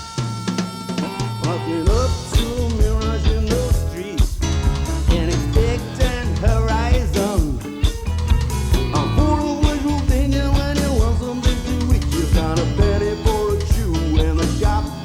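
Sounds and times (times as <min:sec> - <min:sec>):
bass guitar: 0:00.0 - 0:15.0
drums: 0:00.0 - 0:15.0
melodic guitar or voice: 0:00.0 - 0:15.0.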